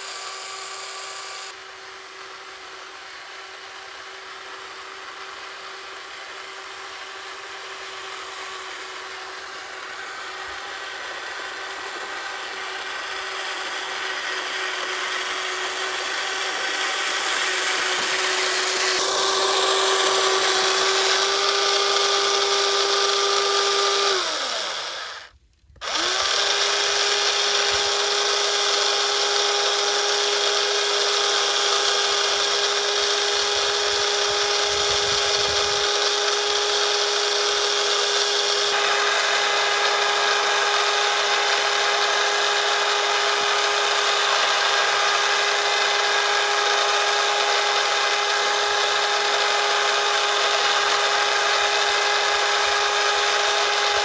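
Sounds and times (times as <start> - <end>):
small electric motor whining: 0.0 - 54.0.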